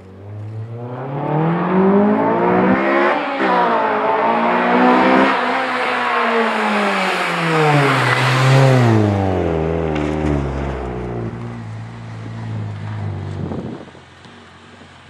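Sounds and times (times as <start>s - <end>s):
car exhaust note: 0.0s - 14.8s.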